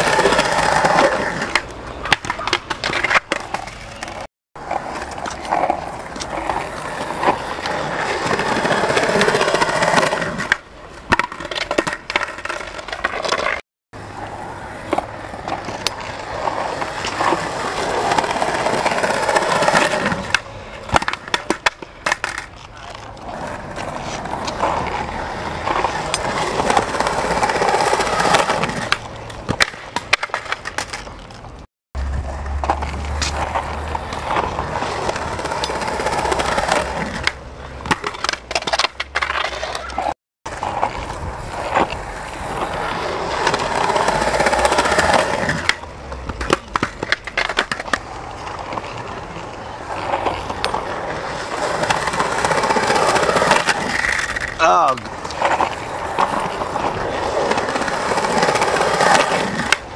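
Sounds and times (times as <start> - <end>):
skateboard pops and clacks: 0.0 - 4.3, 5.0 - 13.6, 16.8 - 31.6, 32.6 - 59.9
skateboard wheels rolling on concrete: 0.0 - 59.9.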